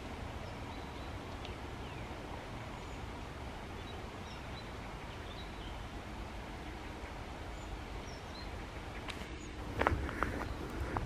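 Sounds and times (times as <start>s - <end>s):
outdoor hiss: 0.0s - 11.0s
small birds chirping: 0.0s - 11.0s.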